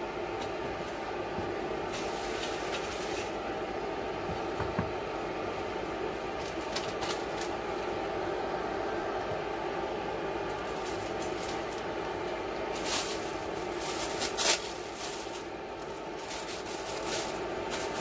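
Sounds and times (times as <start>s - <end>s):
electric burner hum: 0.0s - 18.0s.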